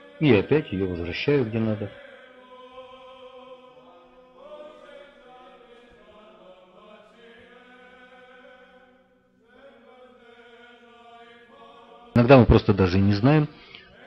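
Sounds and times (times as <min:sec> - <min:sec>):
choral chant music: 0:00.0 - 0:14.0.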